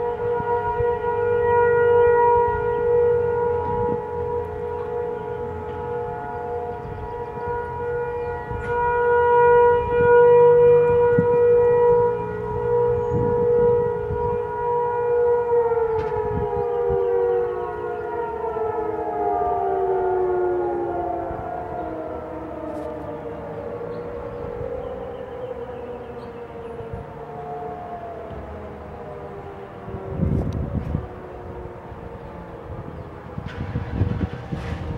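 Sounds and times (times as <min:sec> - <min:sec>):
tornado siren wailing: 0:00.0 - 0:34.9.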